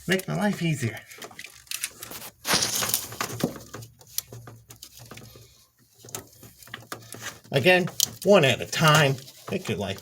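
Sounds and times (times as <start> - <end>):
handling clicks and knocks: 0.1 - 10.0.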